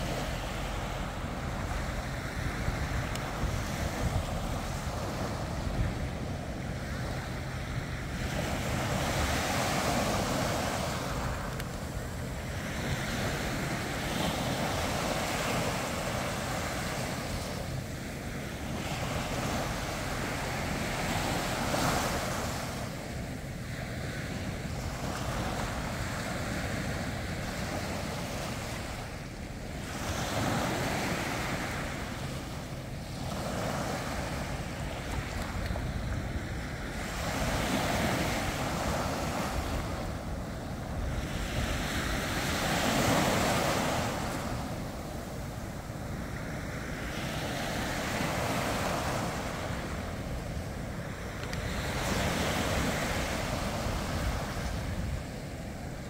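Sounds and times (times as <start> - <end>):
sea waves breaking on beach: 0.0 - 56.0
wind buffeting microphone: 0.0 - 56.0.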